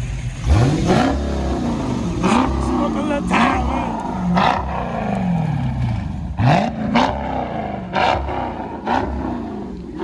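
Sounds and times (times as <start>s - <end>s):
car engine revving: 0.0s - 10.0s
engine idle rumble: 0.0s - 10.0s.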